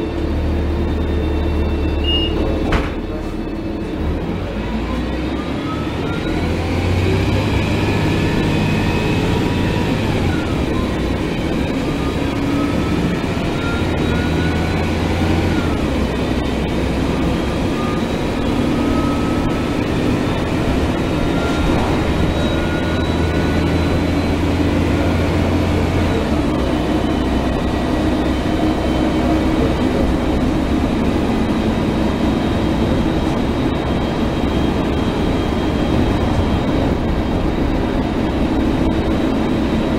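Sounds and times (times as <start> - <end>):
bus engine drone: 0.0 - 39.9
high transmission whines: 0.0 - 39.9.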